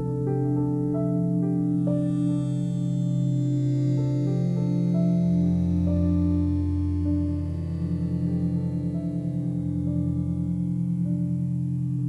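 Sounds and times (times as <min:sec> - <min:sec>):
calm ambient music: 0:00.0 - 0:12.0
steady low drone: 0:00.0 - 0:12.0.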